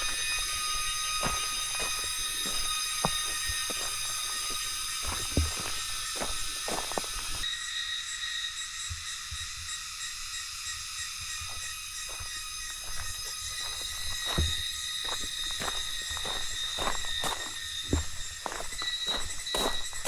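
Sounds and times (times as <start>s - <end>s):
footsteps on forest trail: 0.0s - 7.5s, 10.8s - 20.0s
high-pitched insect chorus: 0.0s - 20.0s.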